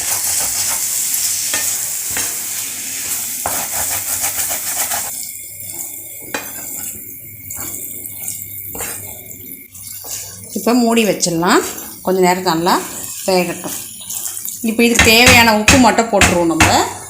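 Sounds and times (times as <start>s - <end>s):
spatula scraping a pan: 0.0s - 15.2s
prawns sizzling in a pan: 0.0s - 17.0s.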